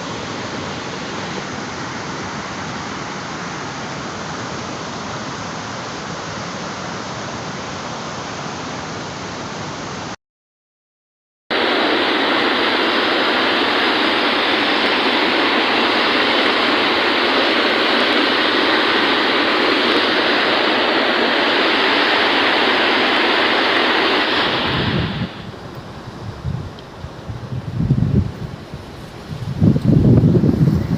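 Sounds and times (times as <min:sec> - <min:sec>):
floodwater rushing: 0:00.0 - 0:10.2, 0:11.5 - 0:30.9.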